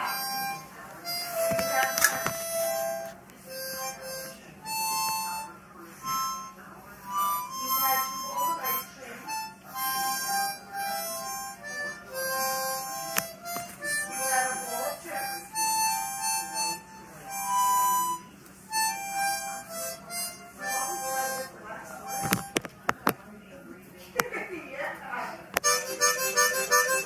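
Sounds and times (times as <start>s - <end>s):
harmonica playing a tune: 0.0s - 22.7s, 25.6s - 27.0s.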